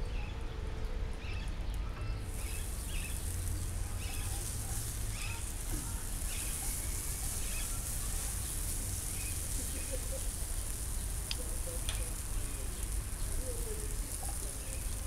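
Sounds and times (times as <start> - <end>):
sausage sizzling in a frying pan: 2.2 - 15.0.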